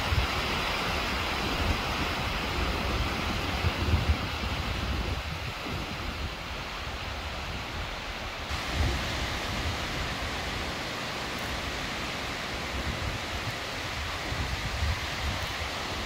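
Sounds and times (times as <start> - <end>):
waterfall rushing: 0.0 - 16.0
wind buffeting microphone: 0.0 - 16.0.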